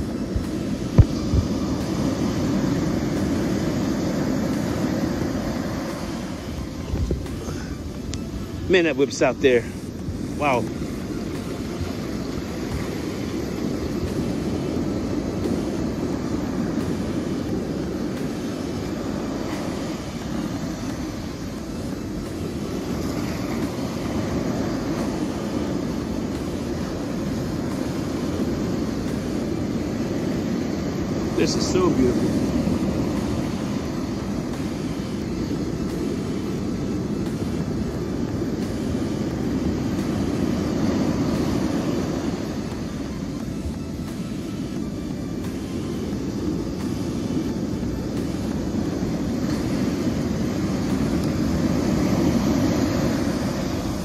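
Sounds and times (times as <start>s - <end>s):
breaking surf: 0.0s - 54.0s
wind: 0.0s - 54.0s.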